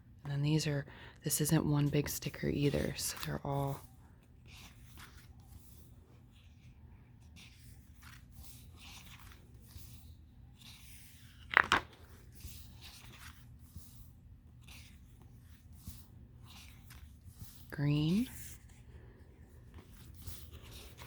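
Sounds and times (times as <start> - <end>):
paper pages rustling: 1.8 - 21.0.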